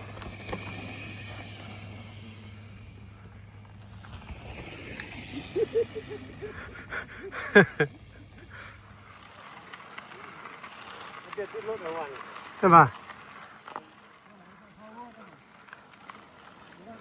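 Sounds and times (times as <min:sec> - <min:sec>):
bicycle tyres humming: 0:00.0 - 0:17.0.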